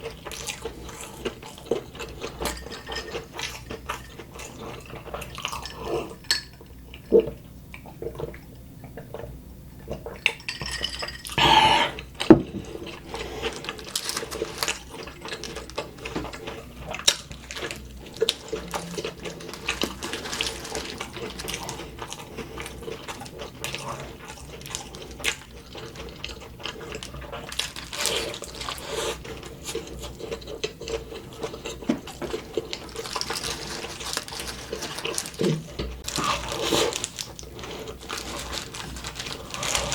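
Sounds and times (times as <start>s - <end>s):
person chewing food: 0.0s - 10.4s, 11.2s - 39.9s.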